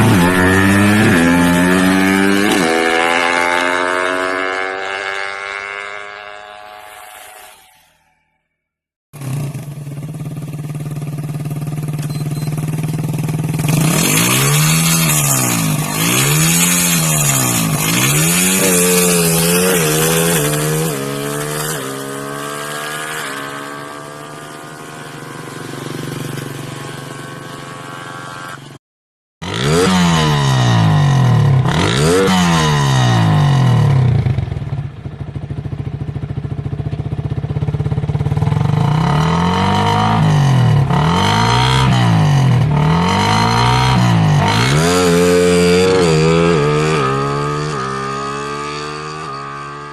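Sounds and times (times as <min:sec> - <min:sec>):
motorcycle engine revving: 0:00.0 - 0:07.7, 0:09.2 - 0:28.8, 0:29.4 - 0:49.9.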